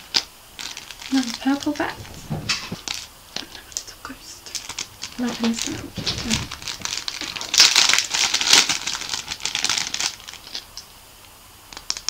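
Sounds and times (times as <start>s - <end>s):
wrapping crinkling and rustling: 0.0s - 12.0s.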